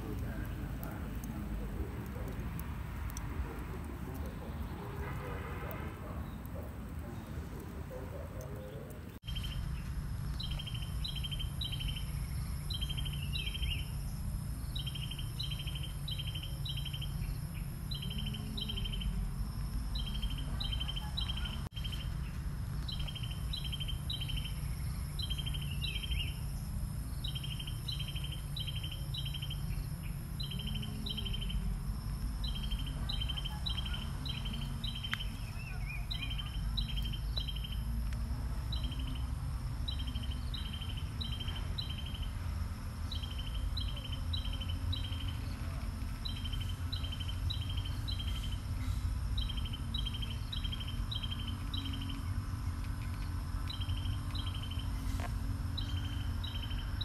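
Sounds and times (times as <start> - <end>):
bird chirping: 0.0 - 57.0
high insect drone: 9.3 - 57.0.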